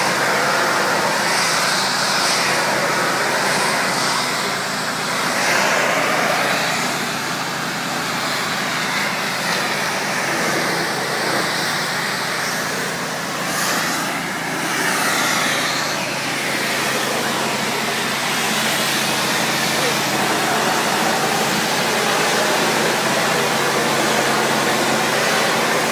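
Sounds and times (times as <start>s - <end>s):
high-pressure water jet hissing: 0.0s - 25.9s
pressure washer motor hum: 0.0s - 25.9s.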